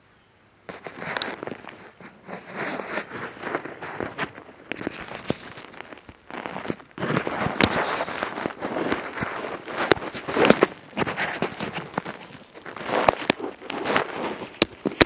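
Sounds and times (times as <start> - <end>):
rustling handling noise: 0.7 - 15.0.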